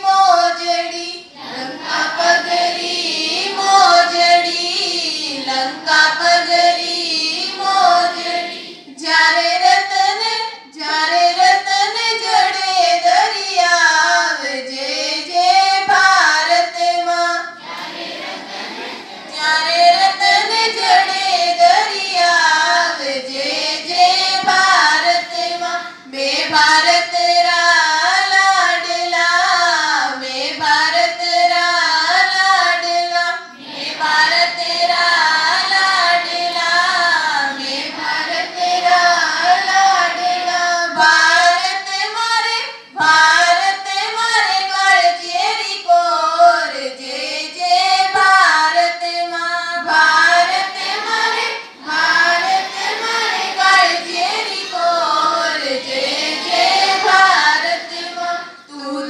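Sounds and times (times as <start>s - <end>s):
children singing in unison: 0.0s - 59.0s.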